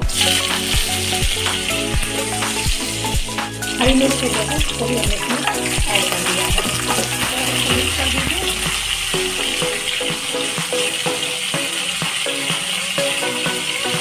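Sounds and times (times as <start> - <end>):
background music: 0.0 - 14.0
hot oil sizzling: 0.0 - 14.0.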